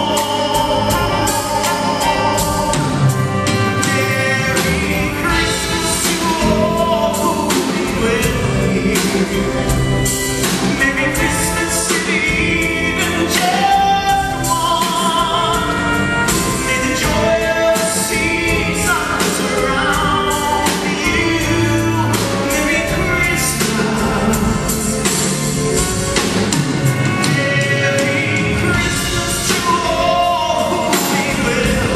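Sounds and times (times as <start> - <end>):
band accompaniment: 0.0 - 31.9
man singing live: 0.0 - 31.9.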